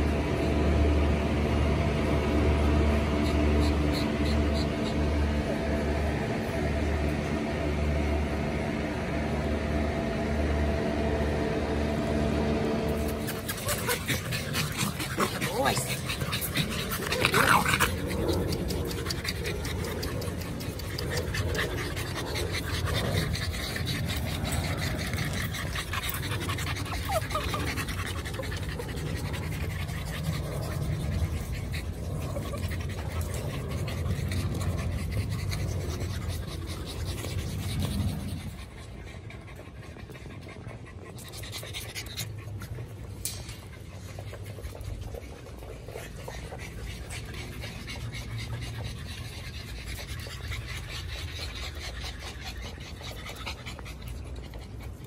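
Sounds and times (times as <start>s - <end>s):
puppies panting: 0.0s - 55.0s.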